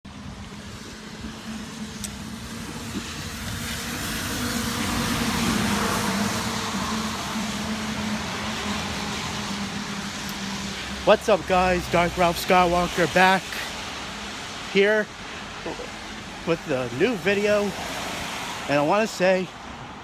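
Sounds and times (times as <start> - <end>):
car passing by: 0.2 - 20.0.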